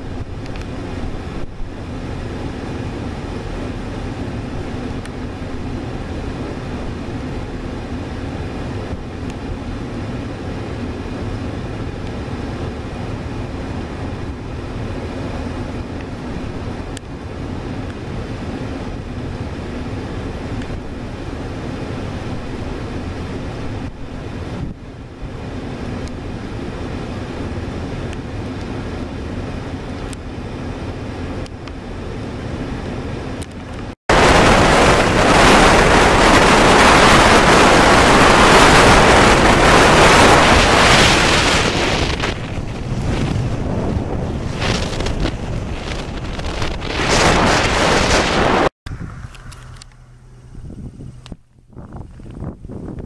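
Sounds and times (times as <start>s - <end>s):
diesel locomotive rumble: 0.0s - 53.0s.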